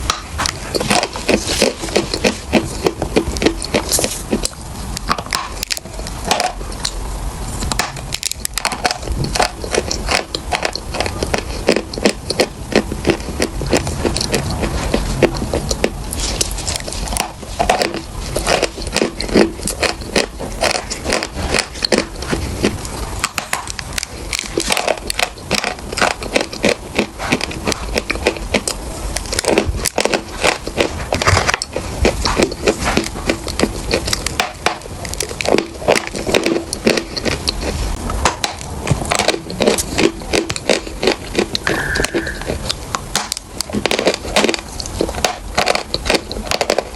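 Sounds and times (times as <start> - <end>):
chewing crunchy chalk: 0.0 - 46.9.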